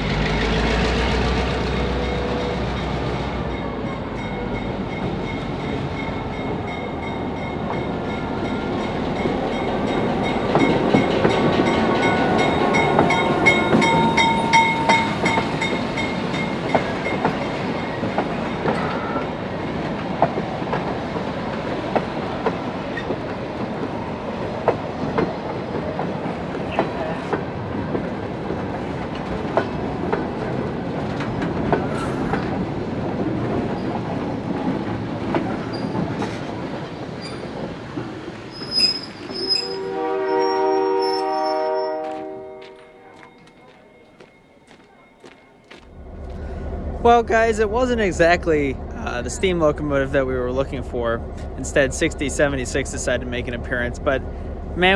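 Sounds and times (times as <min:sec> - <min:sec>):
train wheels clicking on rail joints: 0:00.0 - 0:46.9, 0:47.7 - 0:54.9
train rumble: 0:00.0 - 0:54.9.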